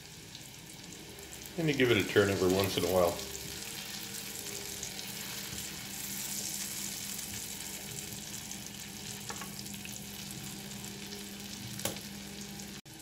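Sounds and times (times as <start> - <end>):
meat sizzling in butter in a pan: 0.0 - 13.0.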